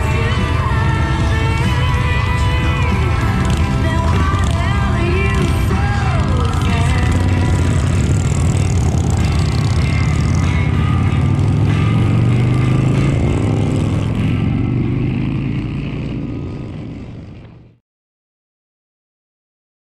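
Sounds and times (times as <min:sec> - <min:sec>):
motorcycle engines rumbling: 0:00.0 - 0:17.8.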